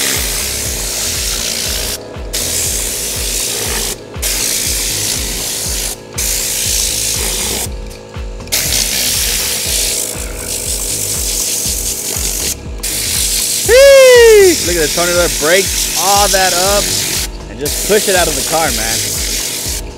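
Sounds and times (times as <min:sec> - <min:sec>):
compressed air gun hissing: 0:00.0 - 0:19.9.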